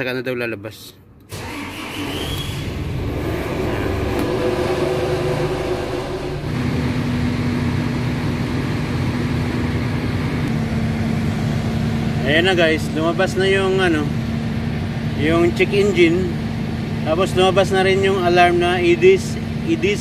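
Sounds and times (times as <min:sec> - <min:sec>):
truck diesel engine starting and idling: 0:01.2 - 0:20.0.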